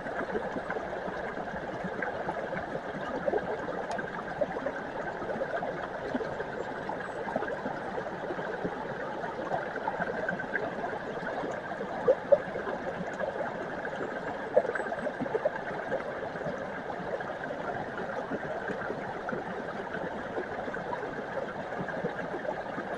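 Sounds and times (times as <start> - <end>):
brook water flowing: 0.0 - 22.9.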